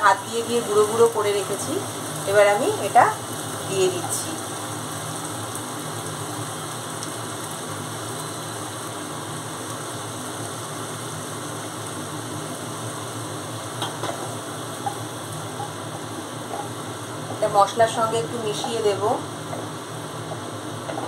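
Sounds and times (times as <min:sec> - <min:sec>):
masala sizzling in a pan: 0:00.0 - 0:21.0.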